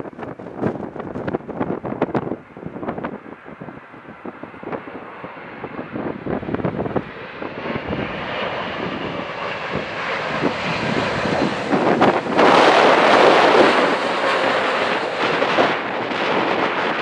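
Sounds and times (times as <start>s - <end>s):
jet aircraft engines: 0.0s - 17.0s
wind buffeting microphone: 0.0s - 17.0s.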